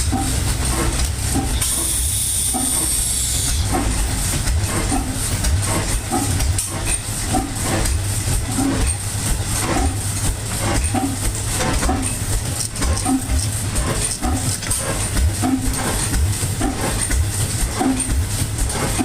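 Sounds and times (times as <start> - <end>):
stationary gas engine running: 0.0 - 19.0.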